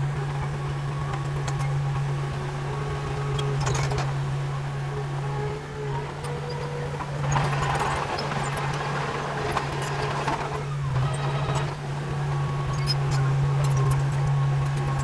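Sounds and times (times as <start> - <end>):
bulldozer diesel engine running: 0.0 - 15.0
rough working noise: 0.0 - 15.0.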